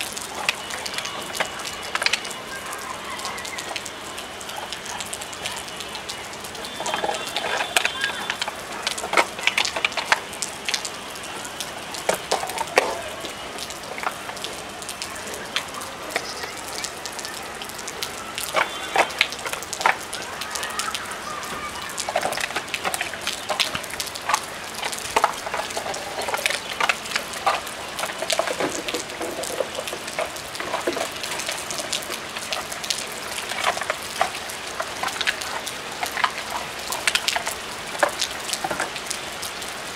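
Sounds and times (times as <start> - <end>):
heavy rain on concrete roof: 0.0 - 39.9.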